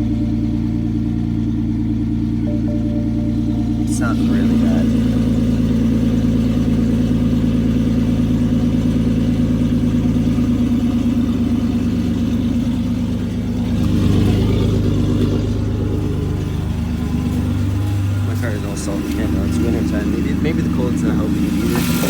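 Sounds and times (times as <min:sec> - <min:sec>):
car engine idling roughly: 0:00.0 - 0:22.0.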